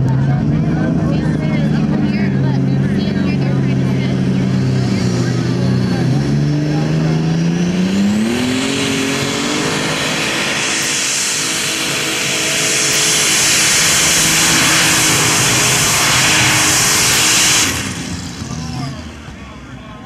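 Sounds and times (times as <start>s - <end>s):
tractor engine roaring at full throttle: 0.0s - 20.0s.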